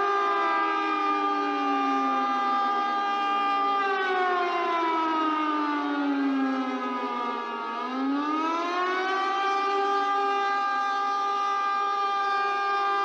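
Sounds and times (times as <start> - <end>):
warning siren wailing: 0.0 - 13.0.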